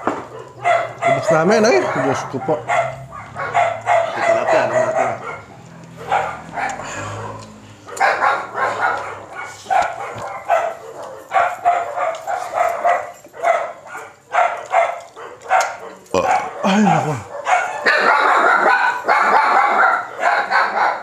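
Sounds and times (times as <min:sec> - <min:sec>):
dog barking: 0:00.0 - 0:21.0.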